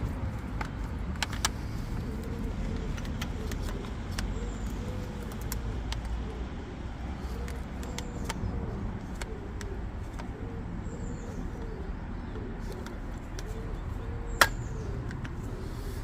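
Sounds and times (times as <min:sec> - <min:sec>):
faint repeated cooing: 0:01.6 - 0:16.0.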